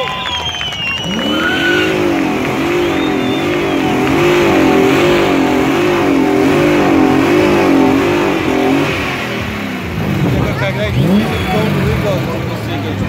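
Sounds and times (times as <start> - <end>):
car engine at high revs: 0.2 - 13.0.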